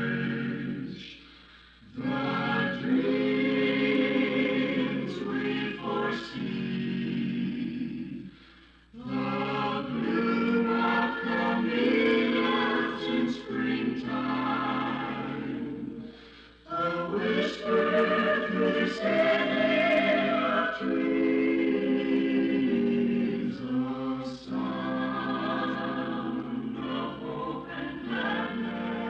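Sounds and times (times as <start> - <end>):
vocal group singing jingle: 0.0 - 29.0.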